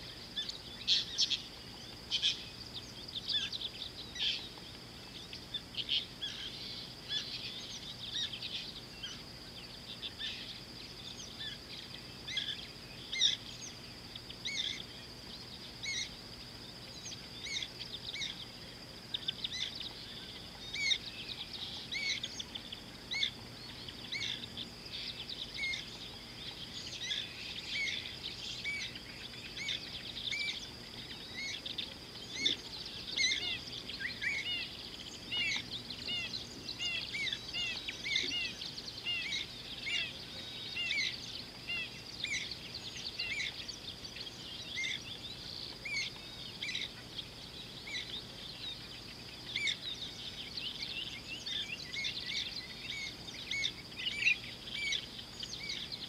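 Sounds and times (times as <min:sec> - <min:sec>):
birds chirping: 0:00.0 - 0:56.0
steady high-pitched whine: 0:00.0 - 0:56.0.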